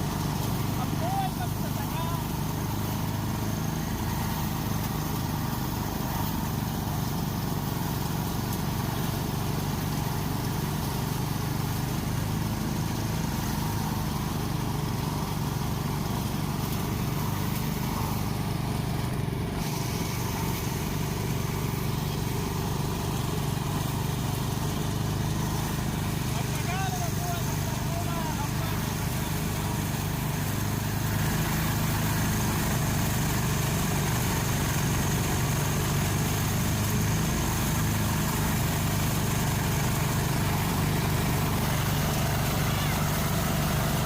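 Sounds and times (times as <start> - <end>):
small engine running steadily: 0.0 - 44.0.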